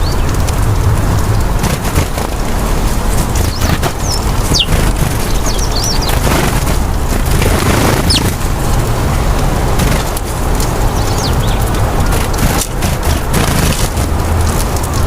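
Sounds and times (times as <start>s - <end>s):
small birds chirping: 0.0s - 9.0s, 9.6s - 14.0s
steady low rumble: 0.0s - 15.0s
wings flapping: 0.2s - 15.0s.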